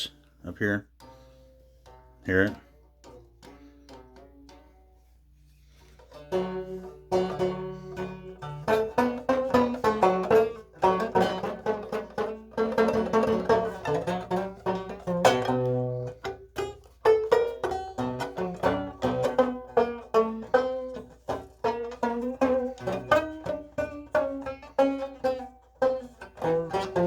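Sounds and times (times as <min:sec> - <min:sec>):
banjo notes plucked: 0:00.0 - 0:27.0.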